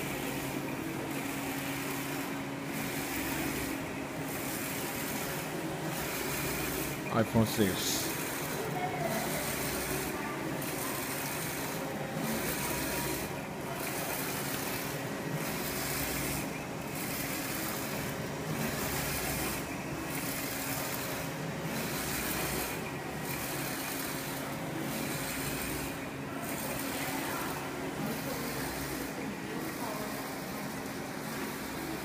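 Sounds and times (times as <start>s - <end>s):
printer machine hum and hiss: 0.0s - 32.0s.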